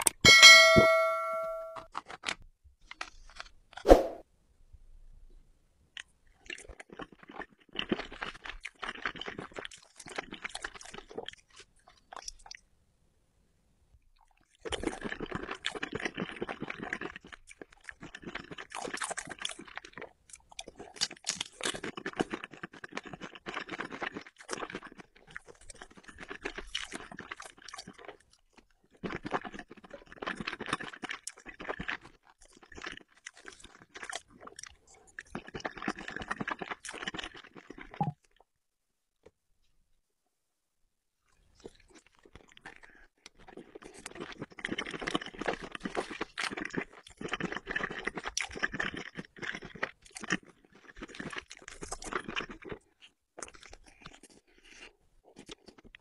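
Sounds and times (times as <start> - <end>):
chewing and crunching food: 1.9 - 3.8, 5.2 - 12.9, 13.8 - 40.0, 41.2 - 56.0.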